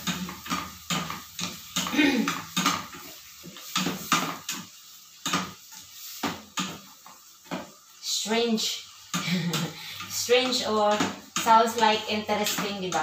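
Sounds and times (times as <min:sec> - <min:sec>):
spatula scraping frying pan: 0:00.0 - 0:13.0.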